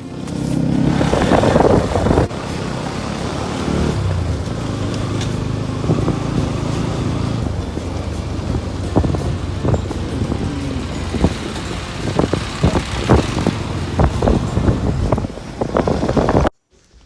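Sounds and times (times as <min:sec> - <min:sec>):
rushing burst: 0:00.0 - 0:16.5
vehicle engine and road noise: 0:00.0 - 0:16.5.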